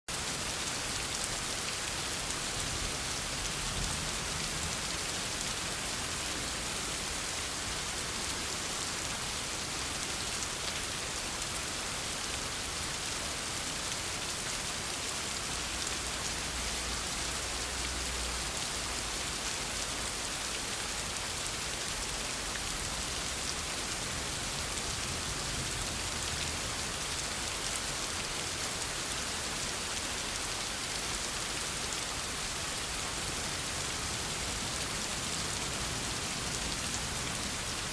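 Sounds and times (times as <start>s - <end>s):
heavy rain falling: 0.1s - 37.9s.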